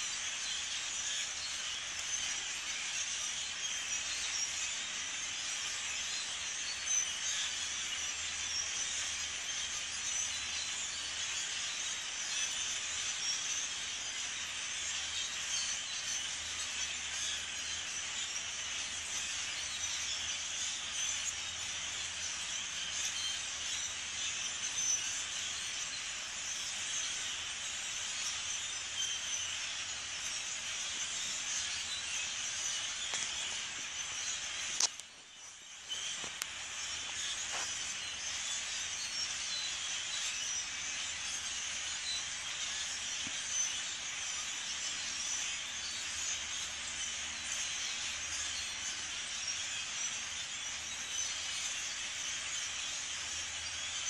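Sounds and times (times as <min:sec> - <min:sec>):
flock of starlings chattering: 0:00.0 - 0:54.0.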